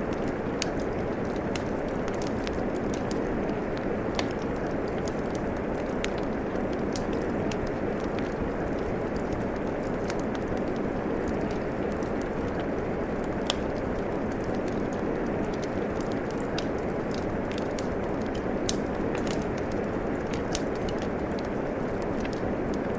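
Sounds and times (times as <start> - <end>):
fire popping: 0.0 - 22.9
steady rain: 0.0 - 22.9
wood fire crackling: 0.0 - 22.9.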